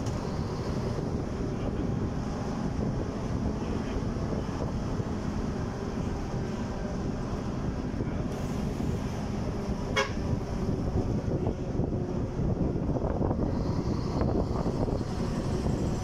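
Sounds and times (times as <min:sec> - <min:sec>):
road noise: 0:00.0 - 0:16.0
vehicle engine rumble: 0:00.0 - 0:16.0
wind on microphone: 0:00.0 - 0:16.0.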